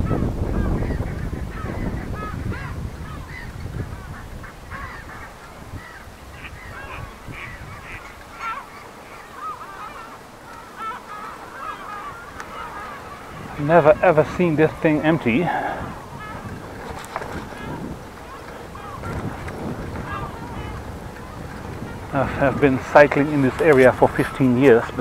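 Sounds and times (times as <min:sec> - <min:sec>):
flock of birds calling: 0:00.0 - 0:25.0.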